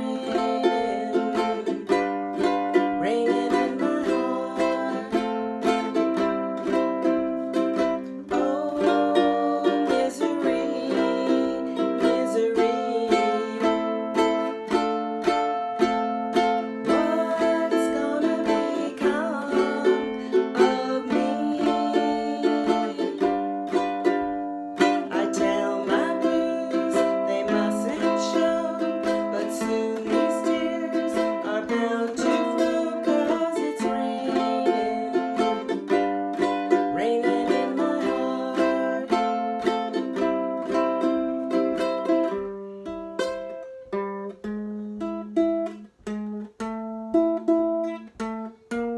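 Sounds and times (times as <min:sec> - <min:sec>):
ukulele strumming chords: 0:00.0 - 0:48.9.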